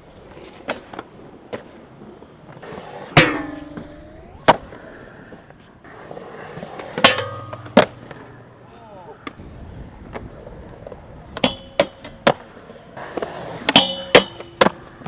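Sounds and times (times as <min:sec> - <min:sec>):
skateboard clacks: 0:00.0 - 0:15.0.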